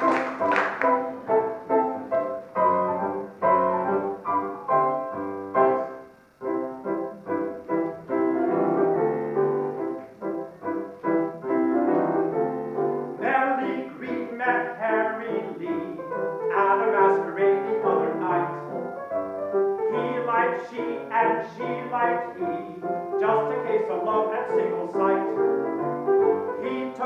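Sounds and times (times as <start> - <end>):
solo piano: 0.0 - 27.0.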